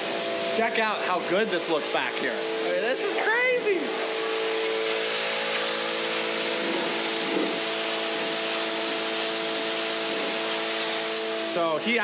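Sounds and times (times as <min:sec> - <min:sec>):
pressure washer spraying wall: 0:00.0 - 0:12.0
steady hum: 0:00.0 - 0:12.0.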